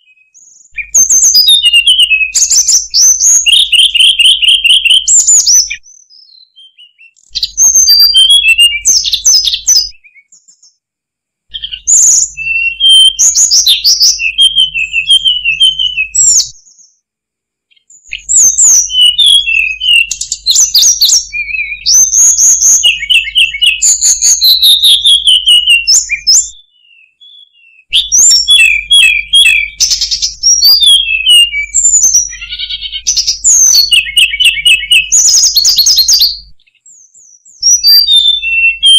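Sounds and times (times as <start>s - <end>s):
bird singing whistled notes: 0.0s - 10.8s, 11.5s - 17.0s, 17.7s - 38.9s.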